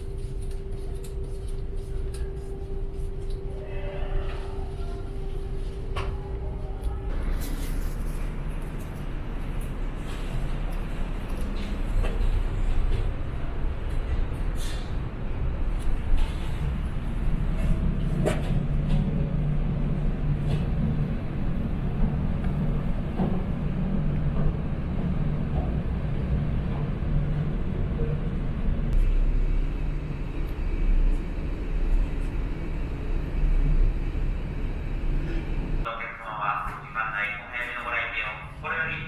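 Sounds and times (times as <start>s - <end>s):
low hum: 0.0s - 37.8s.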